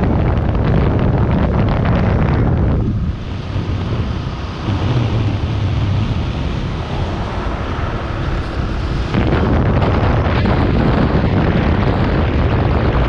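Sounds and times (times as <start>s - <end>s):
car road noise: 0.0s - 13.0s
low rumble: 0.0s - 13.0s
wind rush: 0.0s - 13.0s.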